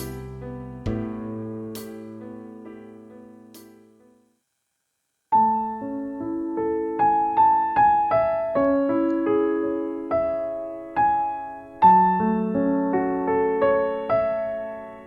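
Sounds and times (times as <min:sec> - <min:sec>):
gentle piano melody: 0:00.0 - 0:04.2, 0:05.3 - 0:15.0.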